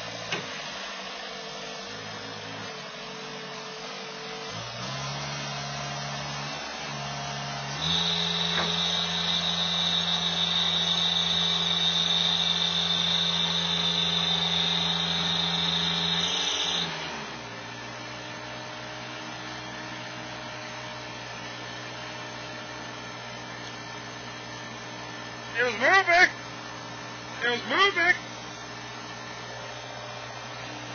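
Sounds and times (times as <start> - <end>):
diesel engine at high throttle: 0.0 - 30.9.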